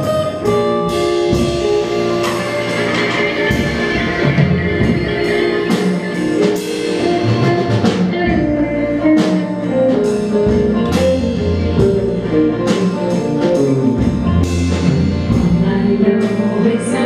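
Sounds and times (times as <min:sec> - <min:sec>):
guitar: 0:00.0 - 0:17.0
upright bass walking line: 0:00.0 - 0:17.0.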